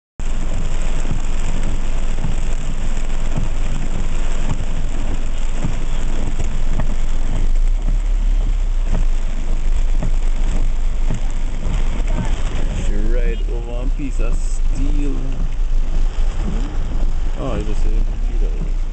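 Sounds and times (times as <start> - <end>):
heavy rain on a van: 0.2 - 18.9
low rumble: 0.2 - 18.9.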